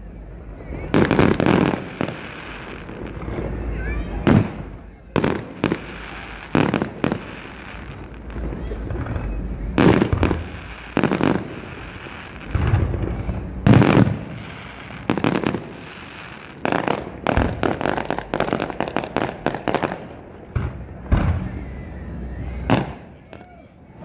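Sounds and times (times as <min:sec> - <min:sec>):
low rumble: 0:00.0 - 0:23.2
crackling firework reports: 0:00.0 - 0:24.0.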